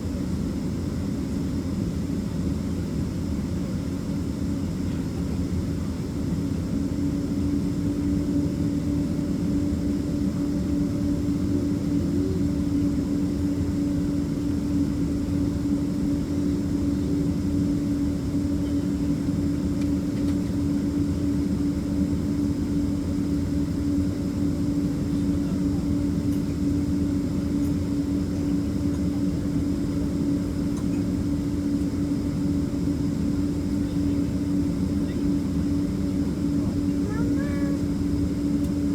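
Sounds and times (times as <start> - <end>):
airplane cabin engine rumble: 0.2 - 38.9.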